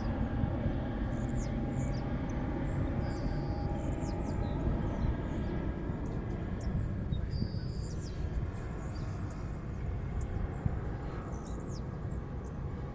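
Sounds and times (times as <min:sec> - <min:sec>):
distant jet engine rumble: 0:00.0 - 0:12.9.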